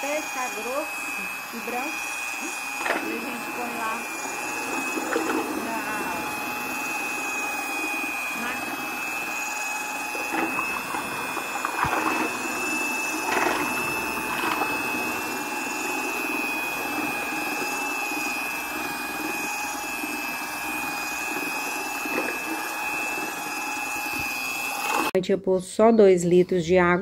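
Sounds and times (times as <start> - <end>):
electric drill whining: 0.0 - 25.2.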